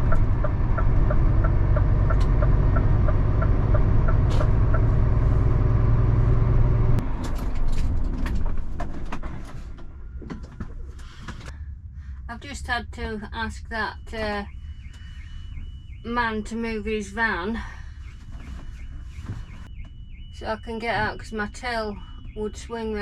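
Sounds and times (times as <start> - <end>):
diesel engine rumble: 0.0 - 23.0.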